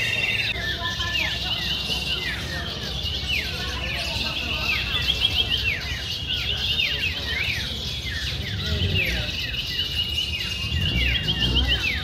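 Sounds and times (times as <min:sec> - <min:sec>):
songbirds whistling and trilling: 0:00.0 - 0:12.0.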